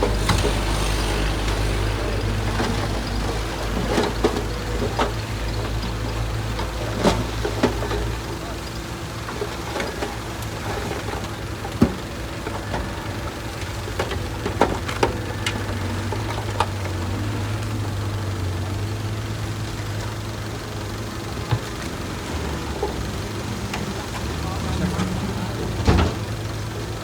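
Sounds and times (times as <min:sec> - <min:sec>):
diesel engine running at low revs: 0:00.0 - 0:27.0.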